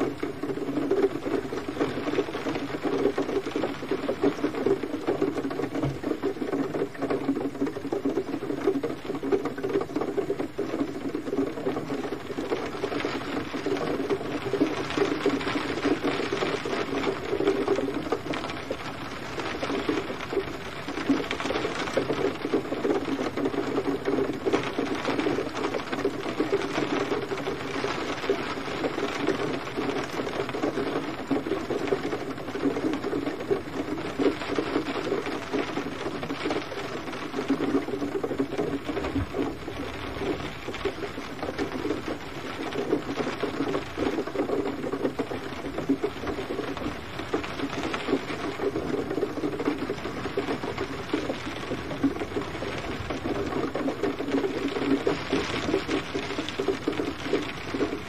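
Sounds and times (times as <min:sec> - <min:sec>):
gentle rain patter: 0:00.0 - 0:58.0.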